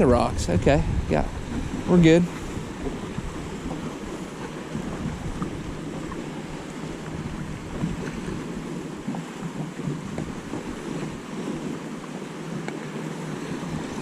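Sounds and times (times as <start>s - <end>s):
water lapping: 0.0s - 14.0s
wind buffeting microphone: 0.0s - 14.0s.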